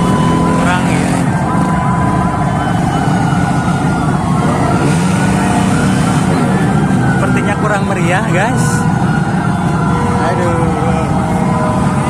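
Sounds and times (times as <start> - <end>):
ambulance siren wails: 0.0 - 12.0
ambulance siren yelp: 0.0 - 12.0.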